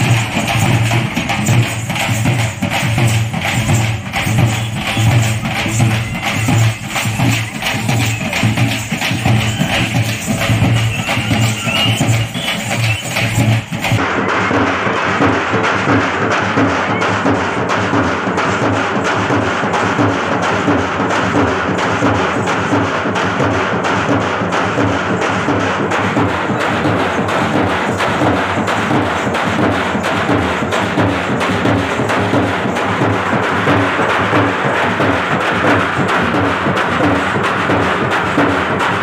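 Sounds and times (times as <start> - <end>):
fast clacking drum beat: 0.0 - 39.0.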